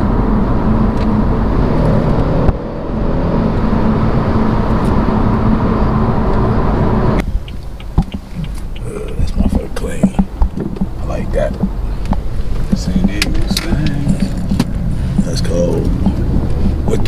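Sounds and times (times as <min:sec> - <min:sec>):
car engine accelerating: 0:00.0 - 0:17.0
road noise: 0:00.0 - 0:17.0.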